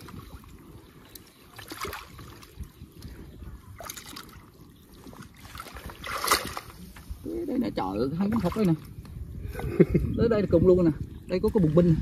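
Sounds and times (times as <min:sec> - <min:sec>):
soft water splashes: 0:00.0 - 0:09.8, 0:10.8 - 0:12.0
muddy water trickling and sloshing: 0:00.0 - 0:12.0.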